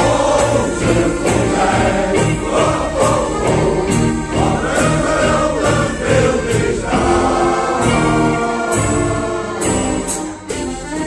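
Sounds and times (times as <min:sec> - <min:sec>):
men's choir singing: 0:00.0 - 0:10.5
accordion: 0:00.0 - 0:11.0.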